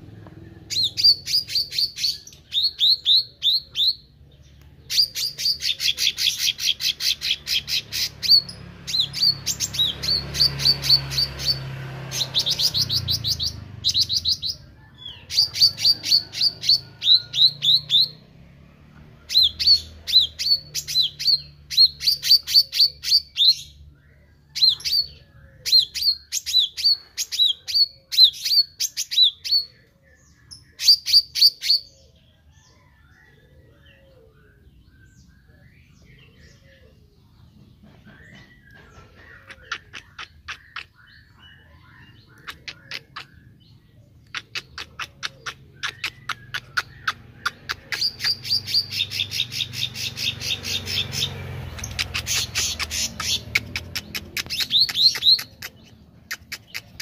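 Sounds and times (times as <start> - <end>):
caged bird singing rapid chirps: 0.0 - 57.0.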